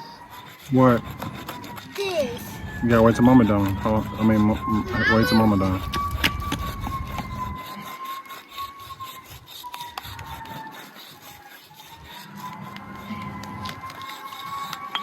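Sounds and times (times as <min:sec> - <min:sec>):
drawing tool scratching on surface: 0:00.0 - 0:15.0.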